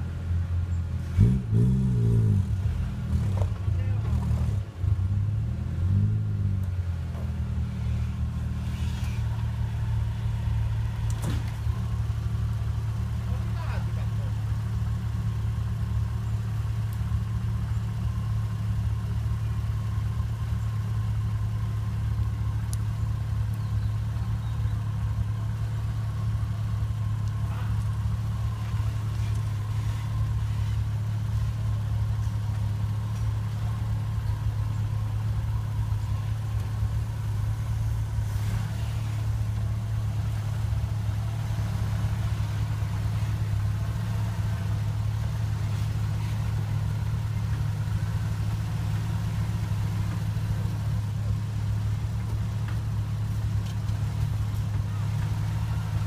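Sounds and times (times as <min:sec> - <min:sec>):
engine running at low revs: 0:00.0 - 0:56.0.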